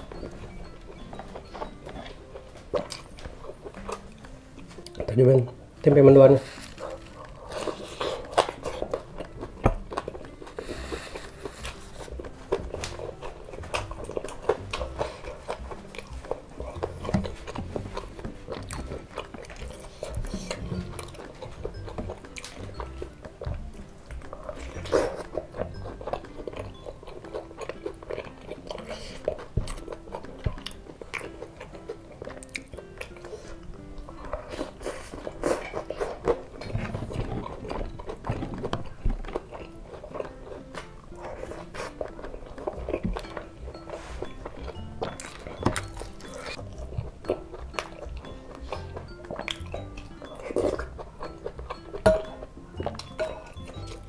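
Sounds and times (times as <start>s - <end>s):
person biting and chewing food: 0.0s - 5.6s, 6.4s - 54.0s.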